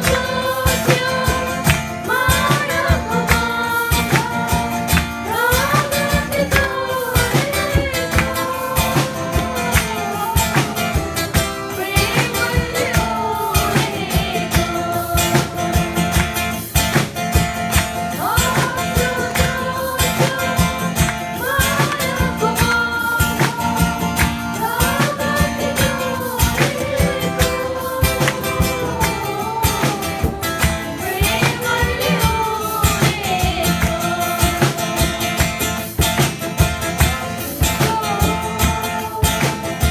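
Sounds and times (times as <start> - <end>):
person singing: 0.0 - 16.6, 18.1 - 35.8, 37.2 - 39.9
guitar: 0.0 - 39.9
steady beat: 0.0 - 39.9.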